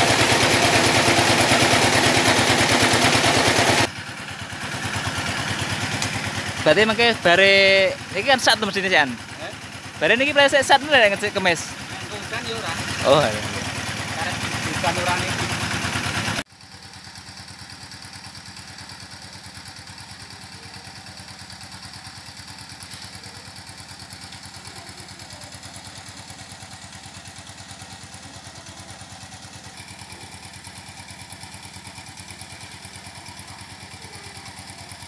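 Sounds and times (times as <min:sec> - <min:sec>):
small engine idling: 0:00.0 - 0:35.0.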